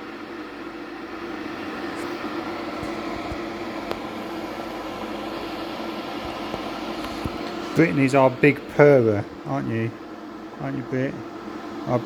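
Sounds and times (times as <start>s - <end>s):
electric kettle heating water: 0.0s - 12.0s.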